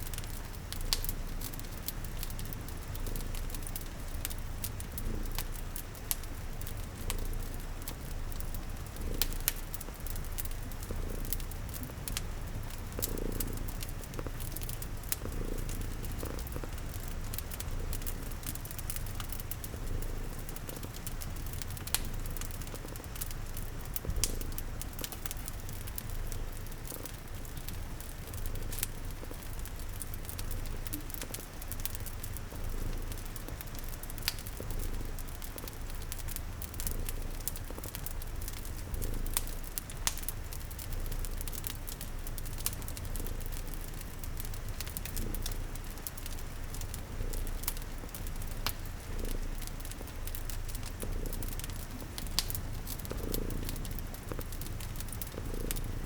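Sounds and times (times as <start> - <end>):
cat purring: 0.0 - 56.0
fire crackling and popping: 0.0 - 56.0
rain pattering: 0.0 - 56.0.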